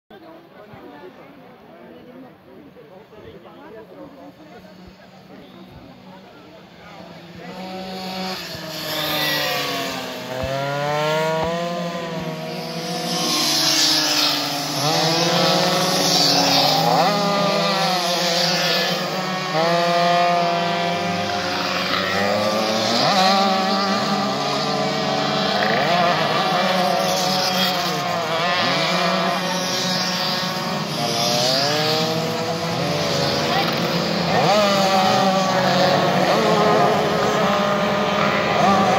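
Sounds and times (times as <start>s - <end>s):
two-stroke mopeds revving past: 4.2s - 38.9s.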